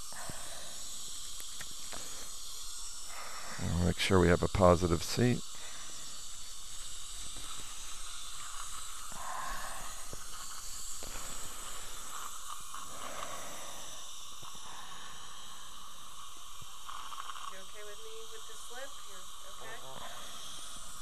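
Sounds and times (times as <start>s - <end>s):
dental suction hissing: 0.0s - 21.0s.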